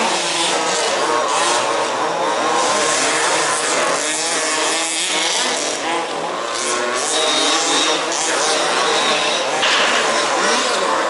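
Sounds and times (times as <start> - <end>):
small two-stroke engines buzzing: 0.0 - 11.0.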